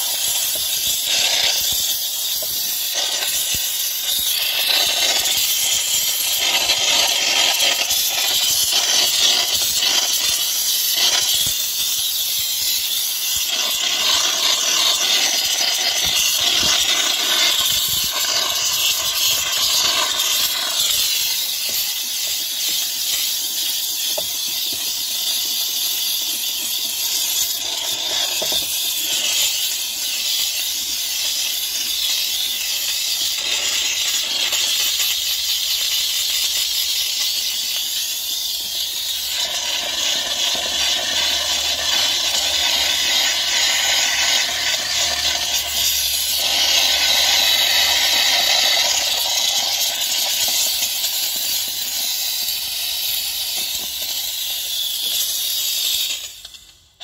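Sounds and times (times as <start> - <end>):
steam cleaner hissing: 0.0 - 57.0.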